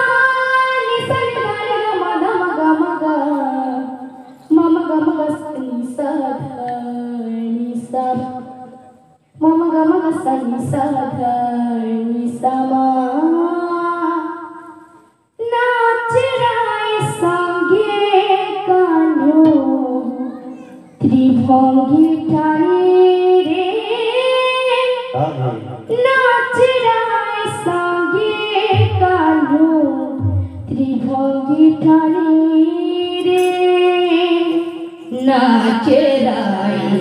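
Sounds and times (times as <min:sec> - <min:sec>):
girl singing into a microphone: 0:00.0 - 0:37.0.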